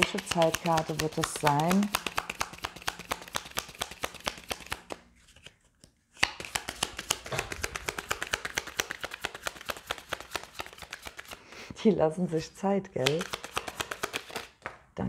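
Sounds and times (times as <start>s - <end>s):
cards being shuffled: 0.0s - 14.8s.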